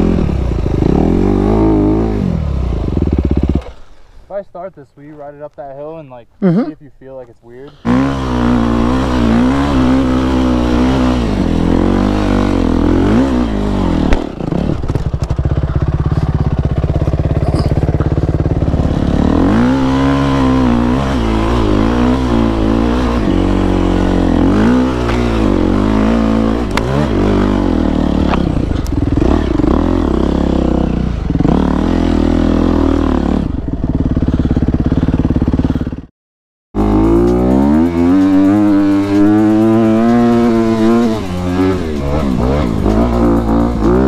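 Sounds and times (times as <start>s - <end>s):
dirt bike engine revving: 0.0s - 4.0s, 7.7s - 36.1s, 36.8s - 44.0s.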